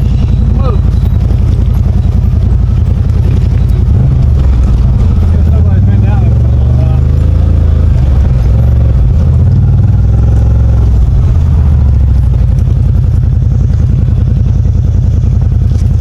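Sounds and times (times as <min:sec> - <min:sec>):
side-by-side engine running: 0:00.0 - 0:16.0.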